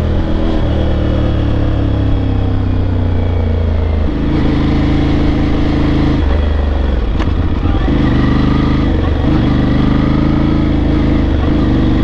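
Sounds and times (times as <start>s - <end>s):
motorcycle engine slowing: 0.0s - 12.0s.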